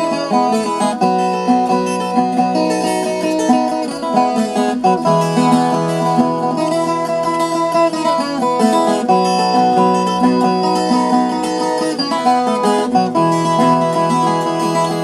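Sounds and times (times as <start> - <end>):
folk guitar plucked melody: 0.0 - 15.0.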